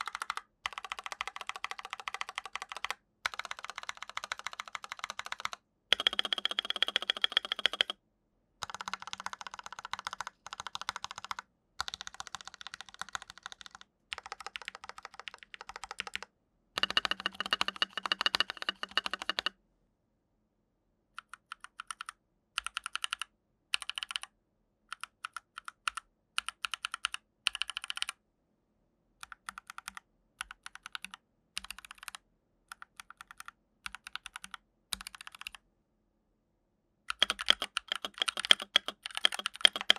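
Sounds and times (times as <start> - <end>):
mechanical keyboard typing: 0.0 - 8.0, 8.6 - 19.5, 21.2 - 24.3, 24.9 - 28.2, 29.2 - 35.6, 37.1 - 39.9.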